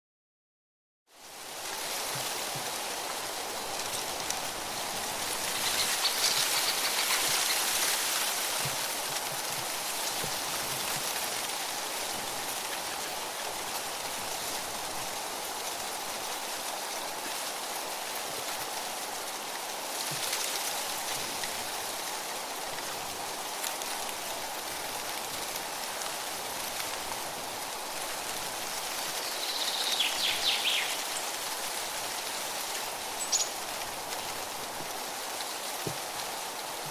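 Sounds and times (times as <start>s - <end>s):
wind rustling tree leaves: 1.1s - 36.9s.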